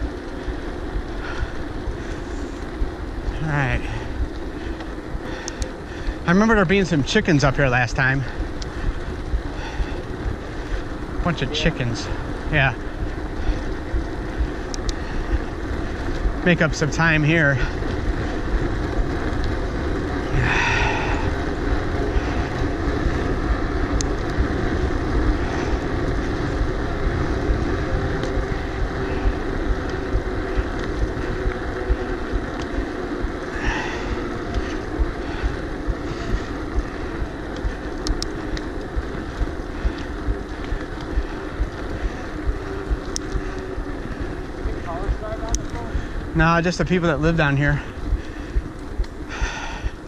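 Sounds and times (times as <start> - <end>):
bicycle tyres rolling on road: 0.0 - 50.0
wind buffeting microphone: 0.0 - 50.0.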